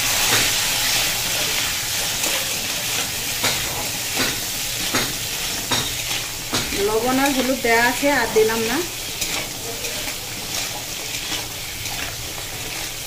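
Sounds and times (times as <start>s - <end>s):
crab sizzling in oil: 0.0s - 13.0s
metal spatula scraping wok: 0.1s - 13.0s.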